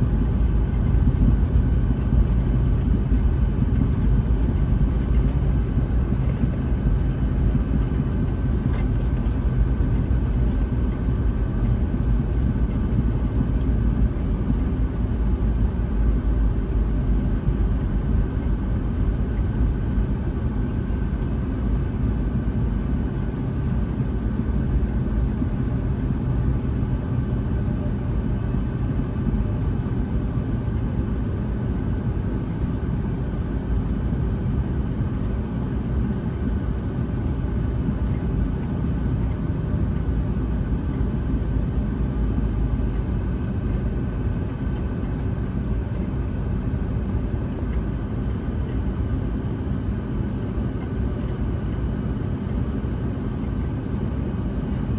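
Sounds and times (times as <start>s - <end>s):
jet engine and airflow rumble: 0.0s - 54.9s.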